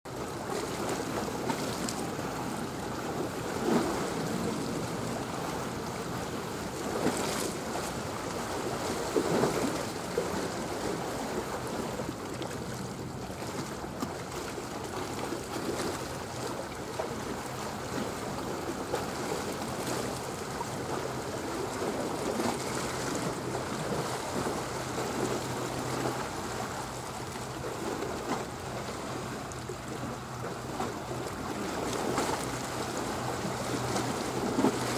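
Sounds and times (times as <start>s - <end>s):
sea water lapping: 0.1s - 34.9s.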